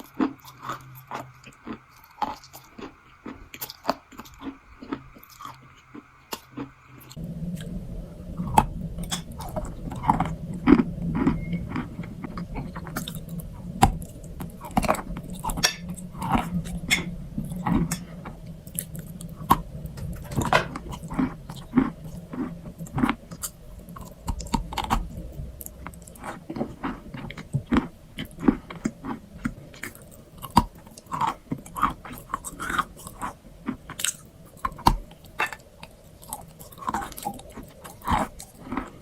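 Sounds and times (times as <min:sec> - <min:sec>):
person chewing crunchy food: 0:00.0 - 0:39.0.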